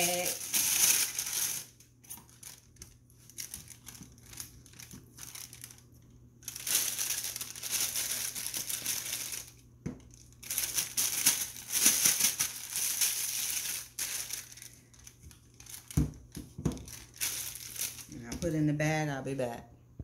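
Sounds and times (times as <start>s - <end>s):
plastic bag crinkling: 0.0s - 18.6s.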